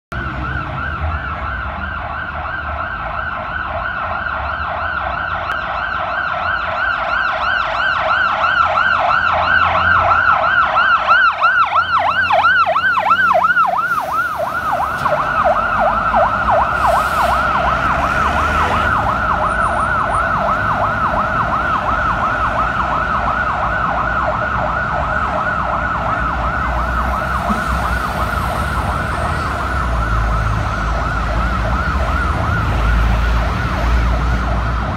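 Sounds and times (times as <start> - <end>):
fire engine siren yelping: 0.1 - 34.9
street traffic rumbling: 0.1 - 34.9
truck engine rumbling: 0.1 - 34.9.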